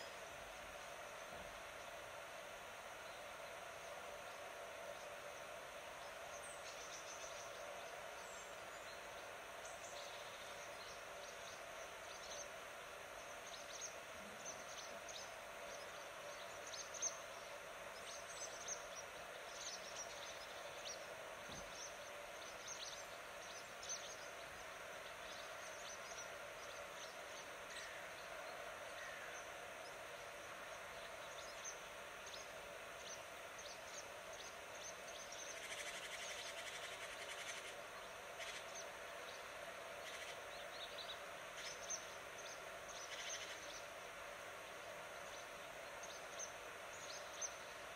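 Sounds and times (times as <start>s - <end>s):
faint background hiss: 0.0s - 47.9s
small birds chirping: 2.8s - 47.9s.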